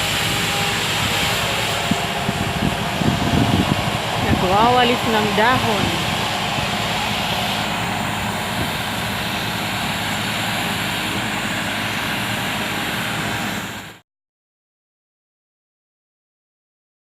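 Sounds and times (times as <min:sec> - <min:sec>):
leaf blower running: 0:00.0 - 0:14.0.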